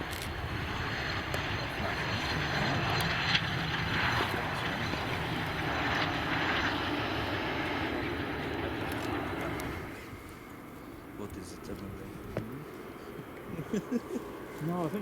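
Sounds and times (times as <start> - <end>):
jet aircraft engines: 0.0 - 15.0.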